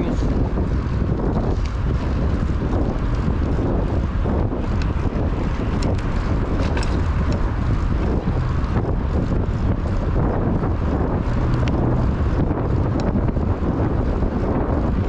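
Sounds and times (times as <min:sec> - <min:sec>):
bike tyre noise: 0:00.0 - 0:15.0
wind buffeting microphone: 0:00.0 - 0:15.0.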